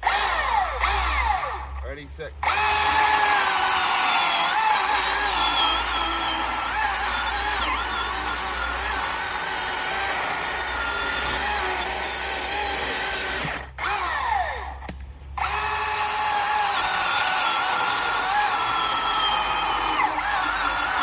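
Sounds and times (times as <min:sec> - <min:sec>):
battery chainsaw cutting log: 0:00.0 - 0:01.8, 0:02.4 - 0:21.0.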